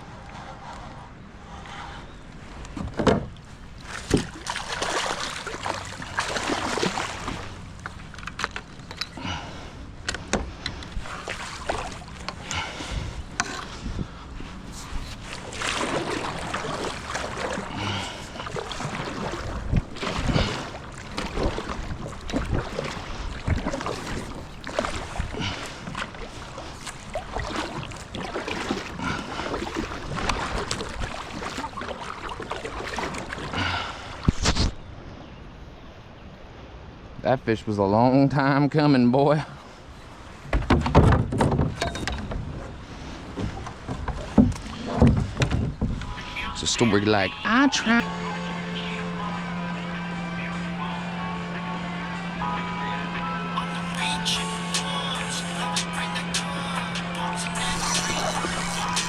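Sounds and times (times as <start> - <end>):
water splashing around kayak: 0.0 - 37.1, 38.4 - 59.0.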